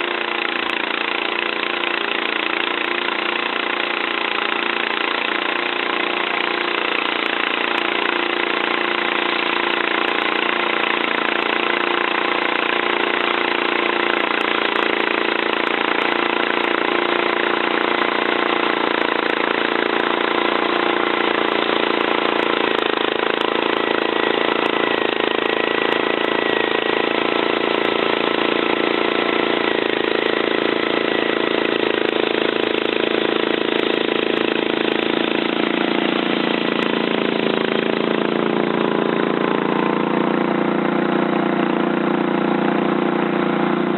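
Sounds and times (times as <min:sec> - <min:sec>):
single-cylinder engine running: 0:00.0 - 0:43.9.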